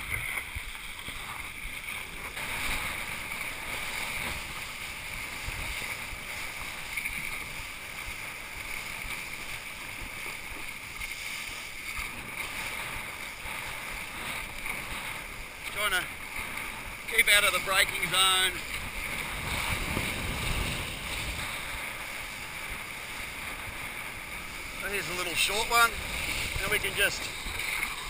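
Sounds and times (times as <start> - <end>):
kiteboard skimming over water: 0.0 - 28.0
wind on microphone: 0.0 - 28.0.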